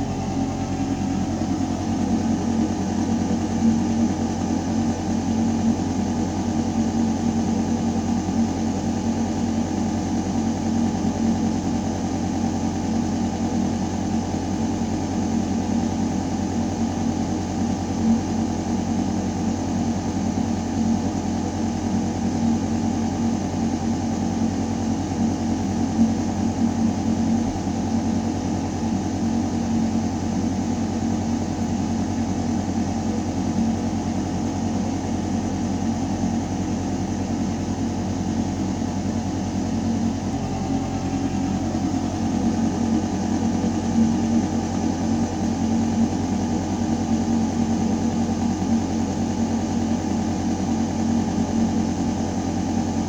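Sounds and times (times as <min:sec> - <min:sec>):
ventilation hum in ducting: 0:00.0 - 0:53.0.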